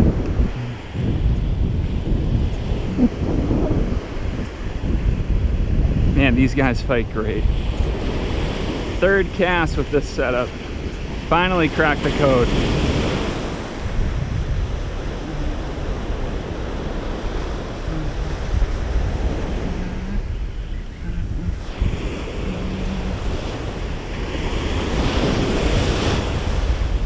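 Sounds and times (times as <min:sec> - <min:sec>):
waves breaking on beach: 0:00.0 - 0:27.0
wind buffeting microphone: 0:00.0 - 0:27.0.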